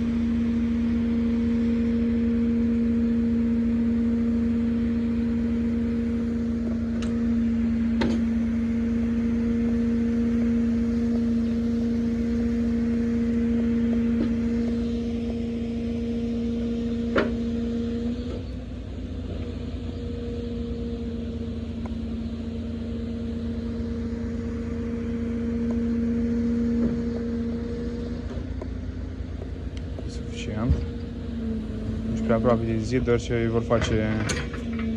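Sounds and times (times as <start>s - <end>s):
diesel engine and hydraulic whine: 0.0s - 34.9s.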